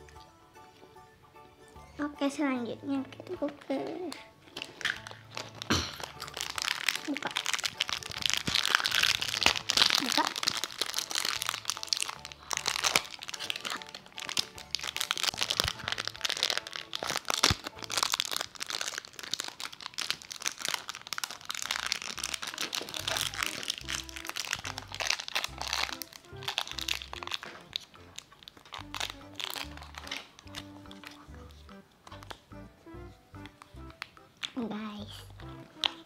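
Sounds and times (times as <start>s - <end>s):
plastic wrappers crinkling: 3.0s - 32.5s, 33.4s - 34.6s, 35.2s - 36.0s.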